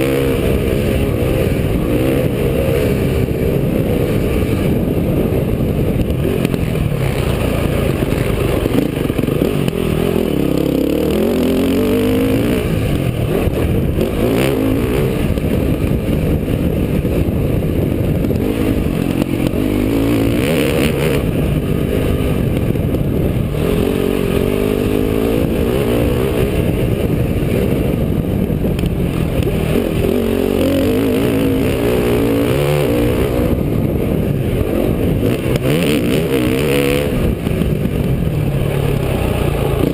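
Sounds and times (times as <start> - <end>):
dirt bike engine revving: 0.0 - 39.9
heavy steady rushing noise: 0.0 - 39.9.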